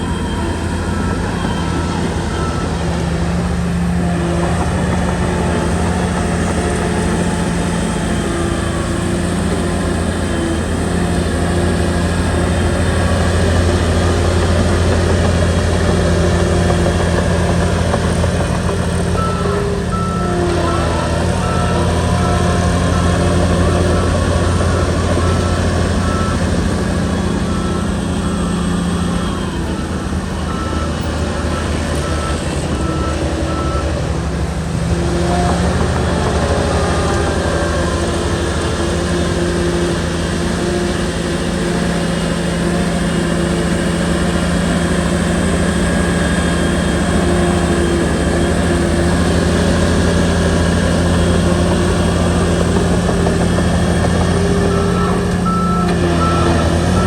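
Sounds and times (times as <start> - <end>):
bulldozer diesel engine running: 0.0 - 57.0
reversing alarm beeping: 0.0 - 57.0.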